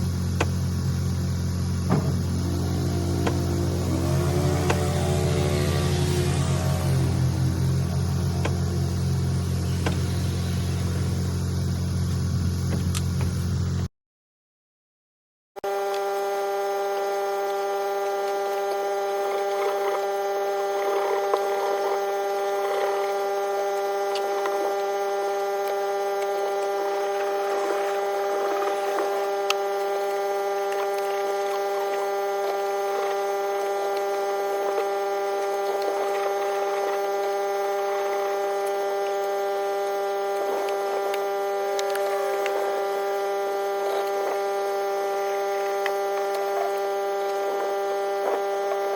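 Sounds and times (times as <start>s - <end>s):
steady electric hum: 0.0s - 13.9s, 15.7s - 48.9s.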